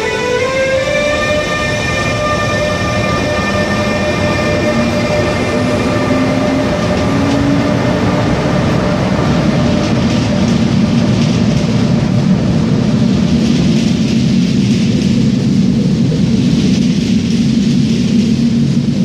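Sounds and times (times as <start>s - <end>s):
electric whine: 0.0s - 19.0s
train wheels rumbling on rails: 0.0s - 19.0s.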